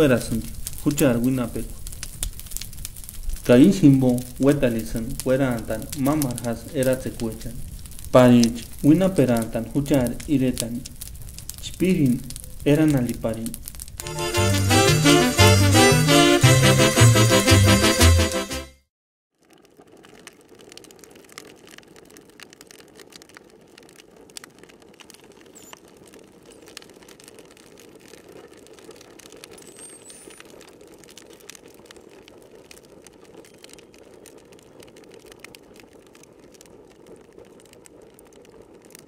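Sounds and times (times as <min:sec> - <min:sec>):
campfire crackling: 0:00.0 - 0:18.6, 0:19.3 - 0:39.0.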